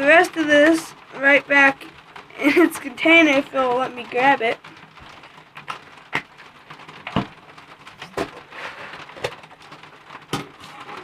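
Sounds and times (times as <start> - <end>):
faint crackling: 0.0 - 11.0.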